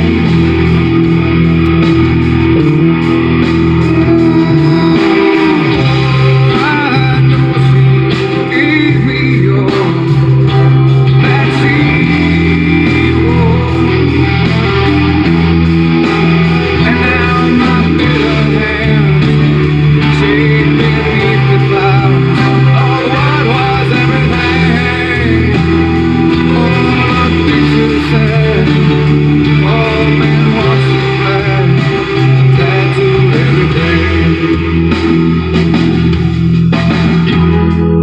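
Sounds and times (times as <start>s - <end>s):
rock song with guitar and vocals: 0.0s - 38.0s.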